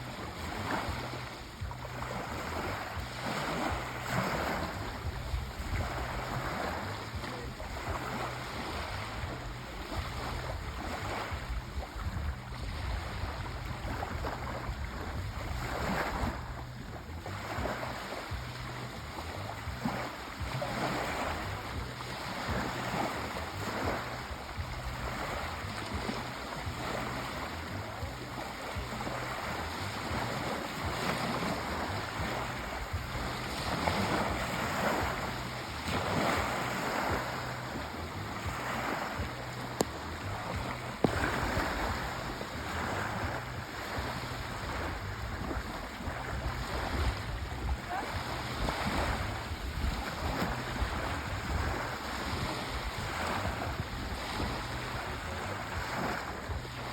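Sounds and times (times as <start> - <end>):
sea waves washing ashore: 0.0 - 56.9.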